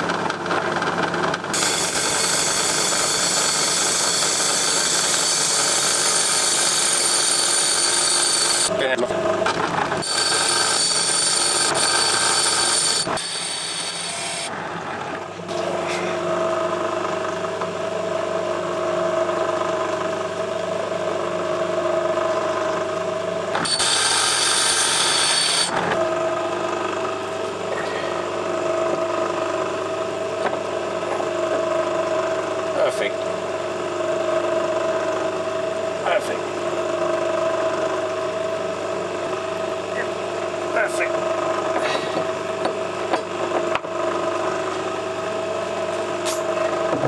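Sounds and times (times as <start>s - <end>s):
motor hum: 0.0s - 47.0s.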